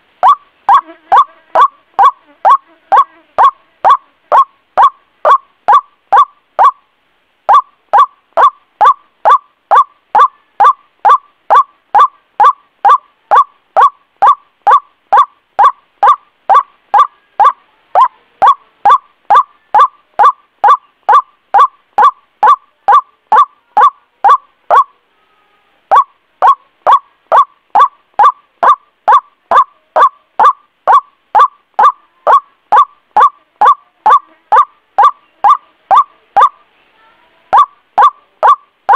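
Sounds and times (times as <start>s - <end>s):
waterhen honking calls: 0.0s - 6.8s, 7.5s - 24.9s, 25.9s - 36.6s, 37.5s - 38.9s.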